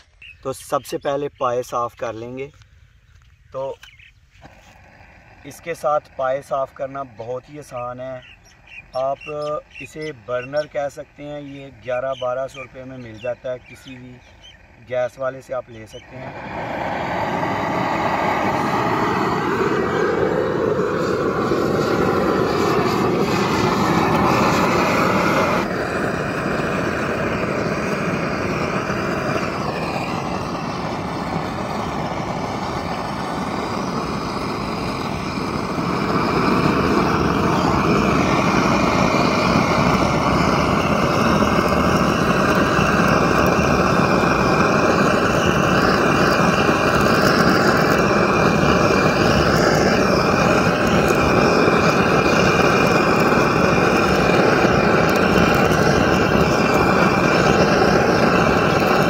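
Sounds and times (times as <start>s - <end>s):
gas burner flame roaring: 4.4s - 59.0s.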